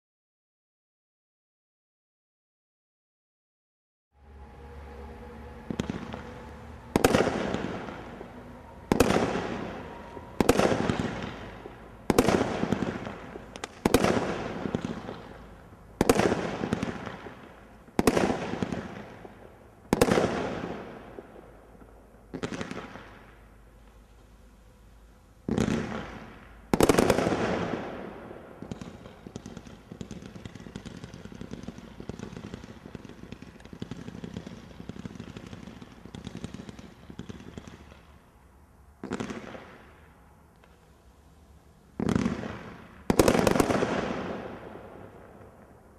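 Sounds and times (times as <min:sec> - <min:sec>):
firework shots: 0:05.6 - 0:24.1, 0:25.4 - 0:38.4, 0:39.0 - 0:41.0, 0:41.9 - 0:45.9
rapid small firework shots: 0:05.6 - 0:24.1, 0:25.4 - 0:38.4, 0:39.0 - 0:41.1, 0:41.9 - 0:45.9.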